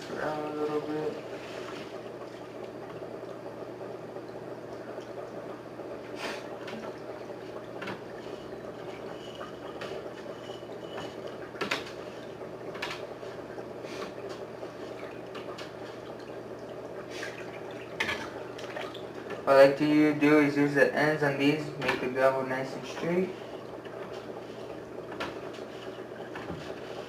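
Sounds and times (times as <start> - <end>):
low steady hum: 0.0 - 27.0
water running into a fish tank: 0.1 - 27.0.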